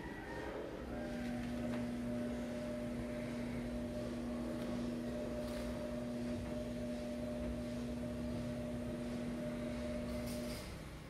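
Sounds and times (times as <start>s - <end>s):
two-tone electrical hum: 0.0s - 11.0s.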